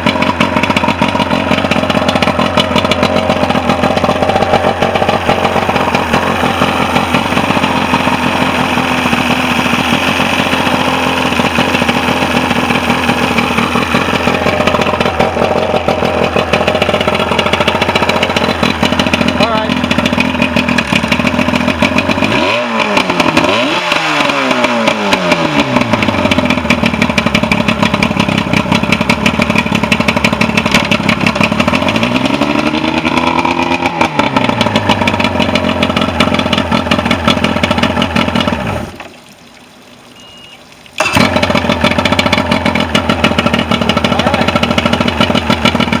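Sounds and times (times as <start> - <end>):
outboard motor idling and revving: 0.0 - 39.1, 40.3 - 46.0.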